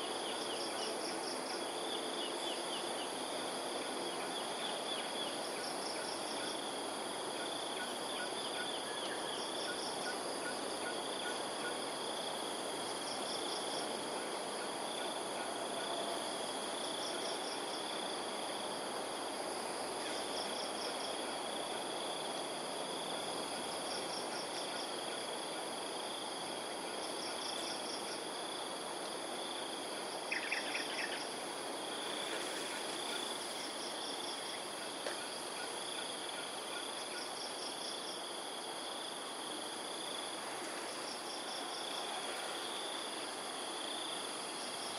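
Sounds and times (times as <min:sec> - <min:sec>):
background hiss: 0:00.0 - 0:44.9.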